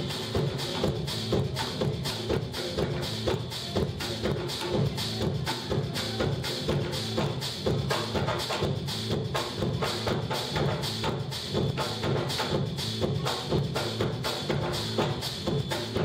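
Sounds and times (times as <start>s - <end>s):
congas and hand drums playing: 0.0s - 16.0s.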